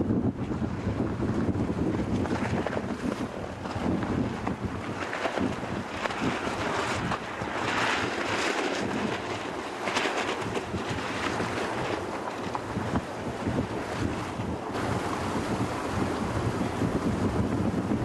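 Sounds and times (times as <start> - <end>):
strong wind on microphone: 0.0 - 18.0
waves splashing: 0.4 - 18.0.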